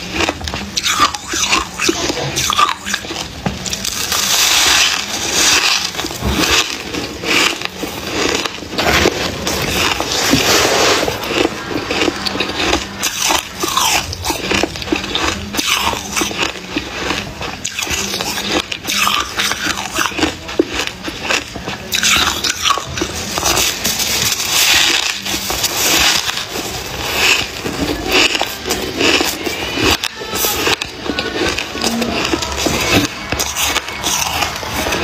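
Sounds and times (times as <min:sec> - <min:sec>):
chewing crunchy ice: 0:00.0 - 0:35.0.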